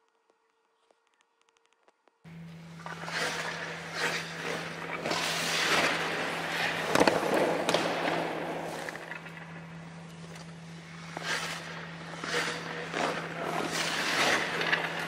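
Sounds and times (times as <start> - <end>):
skate blades scraping ice: 2.3 - 15.0.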